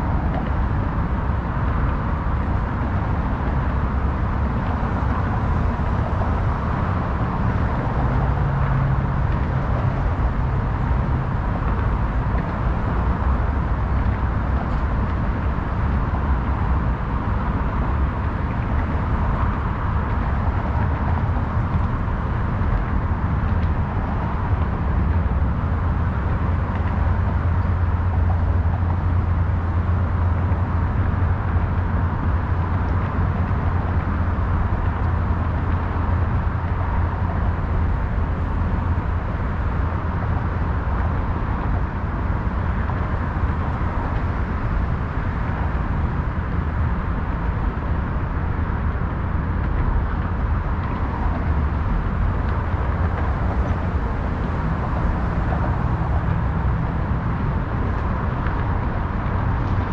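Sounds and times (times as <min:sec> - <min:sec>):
low rumble of road traffic: 0:00.0 - 0:59.9.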